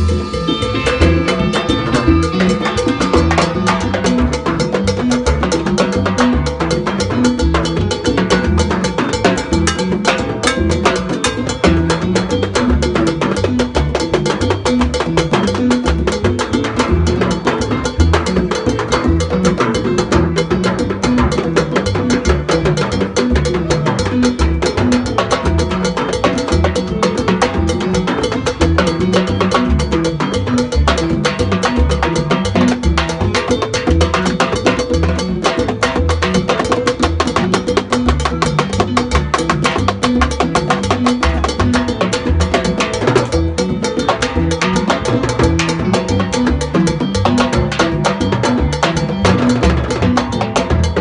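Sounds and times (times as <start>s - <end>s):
congas: 0.0s - 51.0s
low bass line: 0.0s - 51.0s
salsa band playing: 0.0s - 51.0s.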